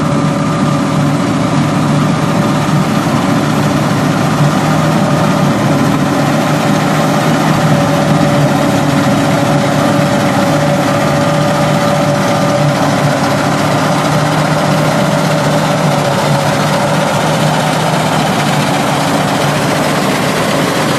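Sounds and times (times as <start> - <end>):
combine harvester running: 0.0 - 20.9.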